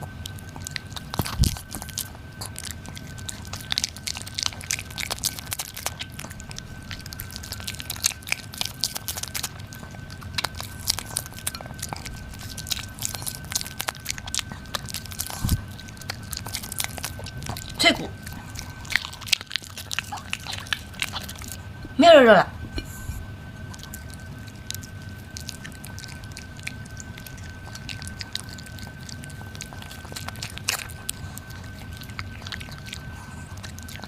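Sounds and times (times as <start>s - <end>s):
dog chewing crunches: 0.0s - 22.0s, 22.9s - 34.0s.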